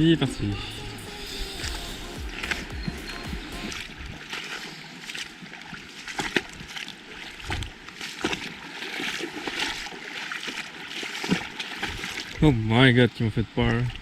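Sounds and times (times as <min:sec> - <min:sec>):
water lapping and sloshing: 0:00.0 - 0:14.0.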